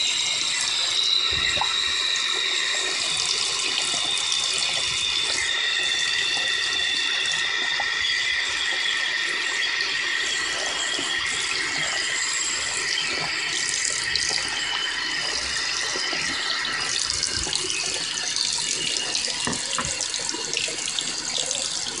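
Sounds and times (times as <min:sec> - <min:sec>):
faucet running into sink: 0:00.0 - 0:22.0.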